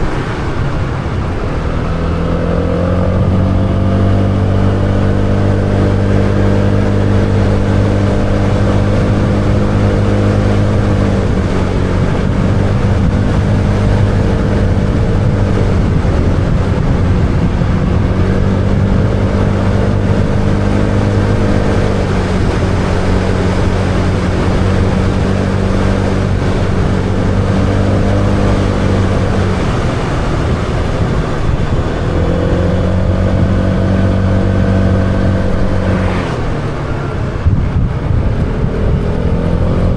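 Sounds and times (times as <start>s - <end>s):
motorbike engine running: 0.0s - 39.9s
wind noise: 0.0s - 39.9s.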